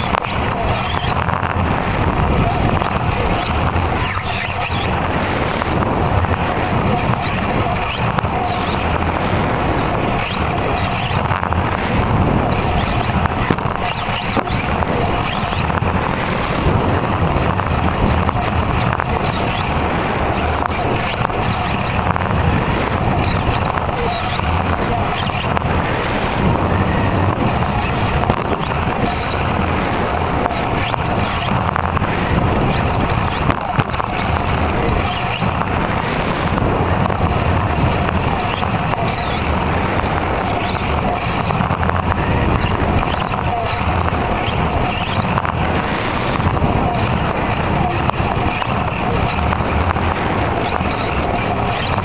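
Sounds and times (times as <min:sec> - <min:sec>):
toy car drivetrain whine: 0:00.0 - 0:52.0.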